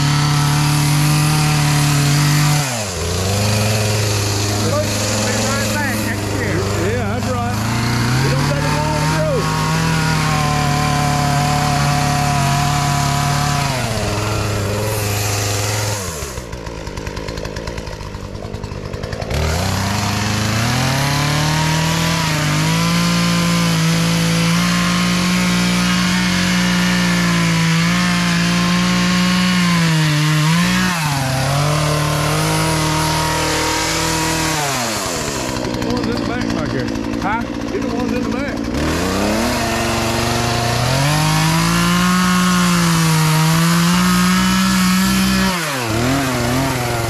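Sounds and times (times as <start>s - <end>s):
chainsaw revving and idling: 0.0s - 47.0s.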